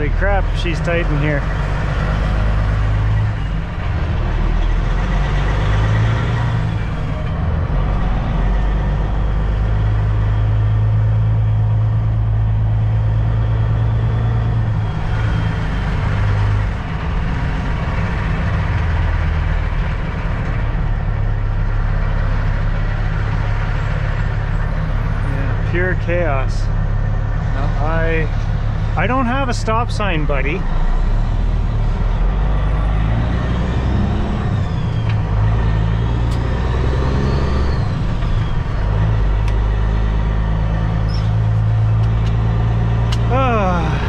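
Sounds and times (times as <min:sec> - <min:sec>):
truck diesel engine drone: 0:00.0 - 0:44.0.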